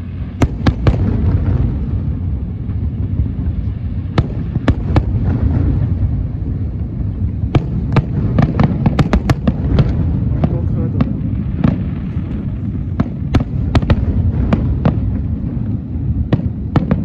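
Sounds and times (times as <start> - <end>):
fireworks cracking: 0.0 - 17.0
low rumble: 0.0 - 17.0.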